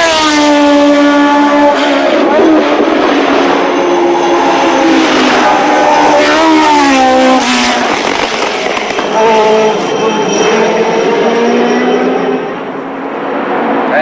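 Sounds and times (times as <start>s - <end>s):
racing car engine high-revving: 0.0s - 14.0s.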